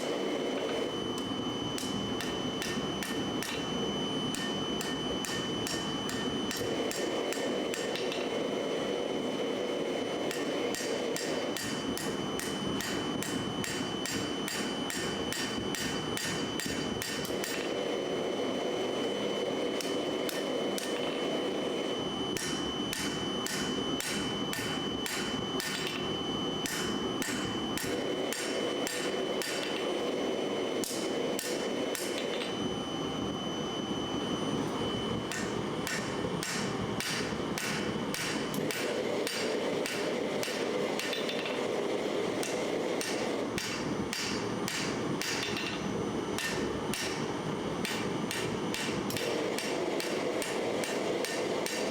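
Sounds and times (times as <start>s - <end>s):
hammer forging steel on anvil: 0.0s - 8.4s, 10.3s - 17.8s, 19.8s - 21.2s, 22.4s - 30.0s, 30.8s - 32.5s, 35.3s - 41.7s, 42.4s - 51.9s.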